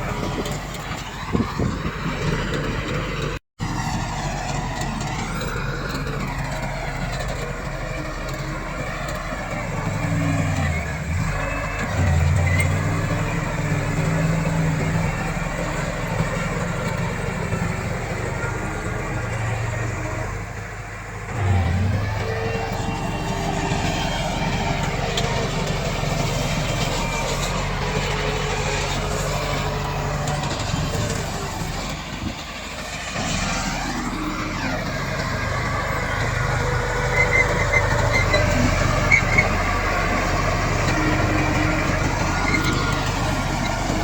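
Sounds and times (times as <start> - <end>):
bulldozer diesel engine under load: 0.0 - 44.0.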